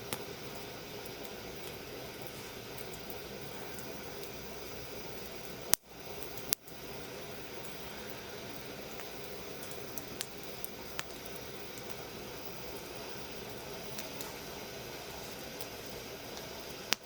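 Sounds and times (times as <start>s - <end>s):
fire crackling: 0.0s - 17.0s
wood fire hissing: 0.0s - 17.0s.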